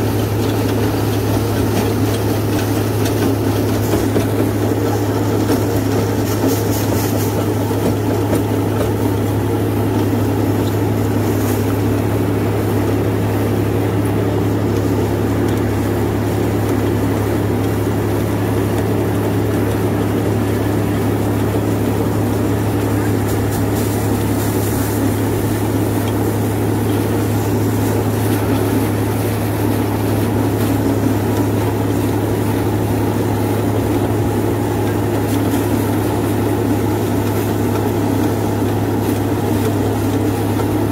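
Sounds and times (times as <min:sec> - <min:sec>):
rotor blades churning soil: 0:00.0 - 0:40.9
tractor diesel engine droning: 0:00.0 - 0:40.9.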